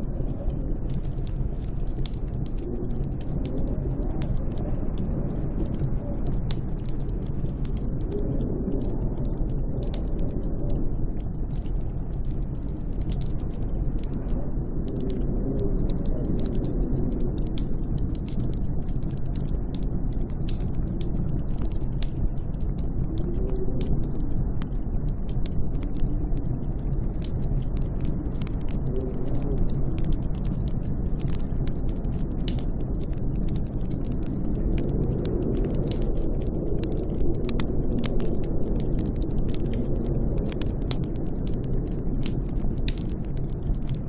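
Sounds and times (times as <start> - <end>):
small irregular crackles and clicks: 0.0 - 44.0
snowstorm wind with deep rumble: 0.0 - 44.0.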